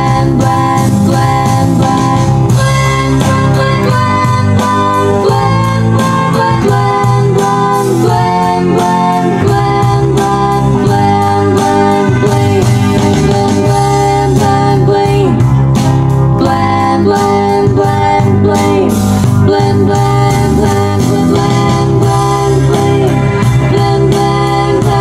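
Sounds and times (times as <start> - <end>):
keyboard melody over a beat: 0.0 - 25.0.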